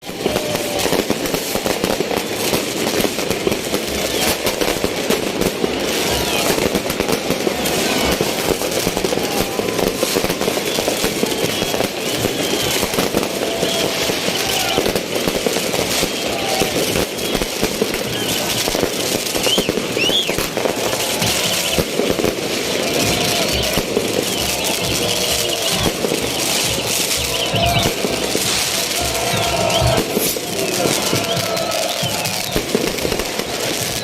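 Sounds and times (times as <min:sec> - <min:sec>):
crowd voices: 0:00.0 - 0:34.0
firecrackers crackling: 0:00.0 - 0:34.0.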